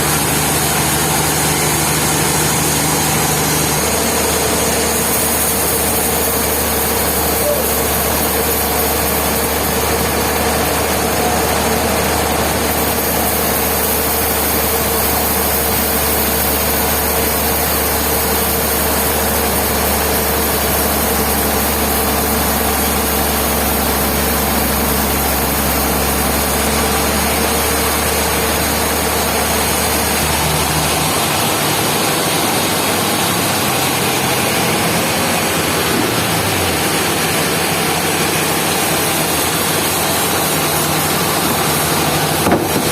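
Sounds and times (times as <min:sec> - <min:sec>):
sawmill machinery droning: 0:00.0 - 0:42.9.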